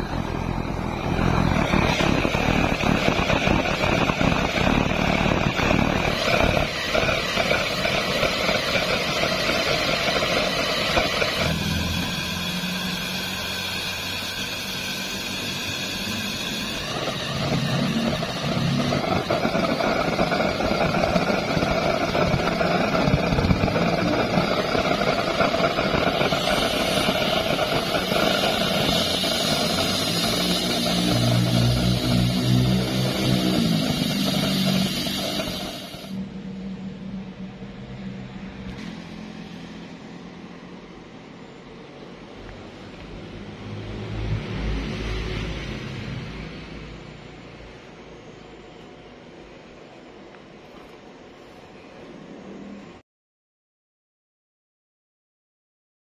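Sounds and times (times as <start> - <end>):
burner flame roaring: 0.0 - 48.8.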